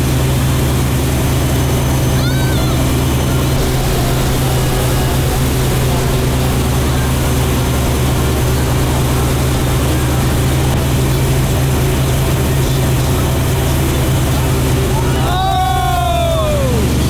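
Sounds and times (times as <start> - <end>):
motorboat engine running: 0.0 - 17.0
rushing water: 0.0 - 17.0
wind: 0.0 - 17.0.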